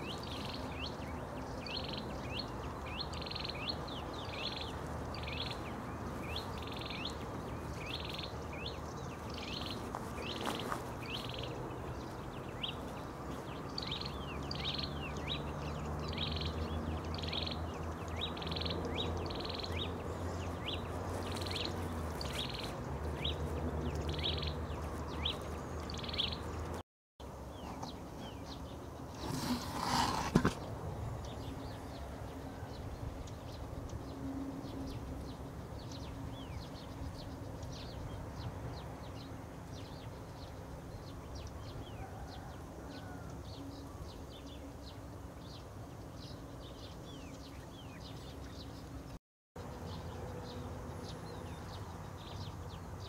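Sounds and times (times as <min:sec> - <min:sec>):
bird chirping: 0:00.0 - 0:26.8, 0:27.5 - 0:53.0.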